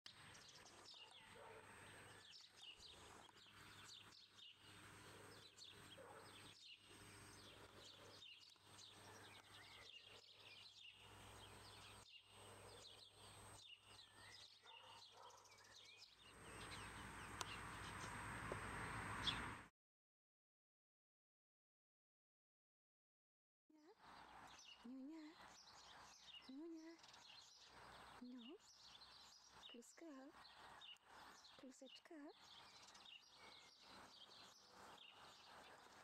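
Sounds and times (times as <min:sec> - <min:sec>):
small birds chirping: 0:00.1 - 0:19.7, 0:23.8 - 0:36.0.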